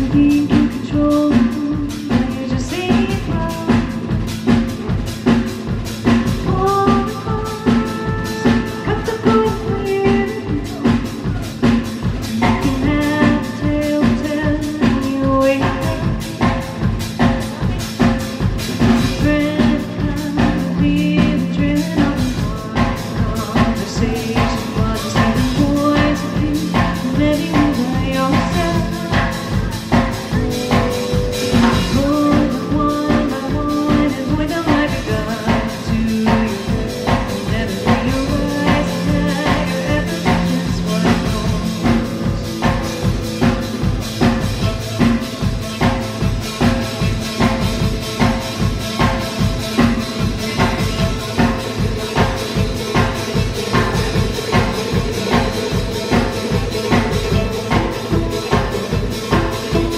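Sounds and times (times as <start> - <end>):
drum beat: 0.0 - 59.9
rock band playing: 0.0 - 59.9.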